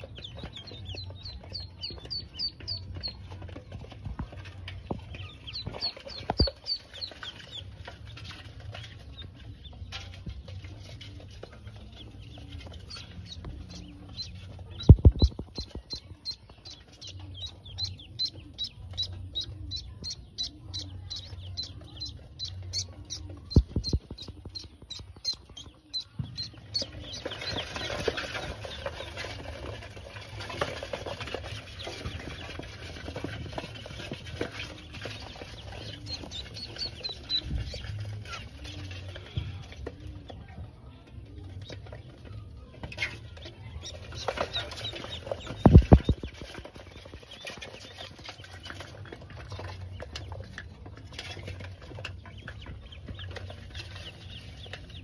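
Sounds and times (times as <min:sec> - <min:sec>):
ducklings peeping: 0:00.0 - 0:55.0.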